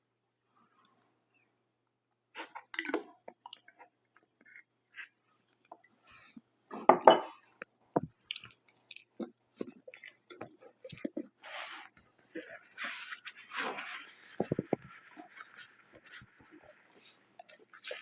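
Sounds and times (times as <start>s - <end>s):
chewing and wet mouth sounds: 2.4s - 6.5s, 7.4s - 18.0s.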